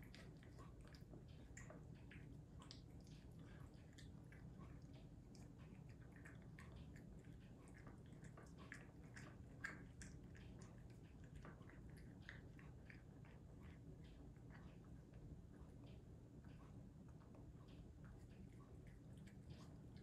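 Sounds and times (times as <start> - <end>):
cat chewing wet food: 0.0 - 20.0.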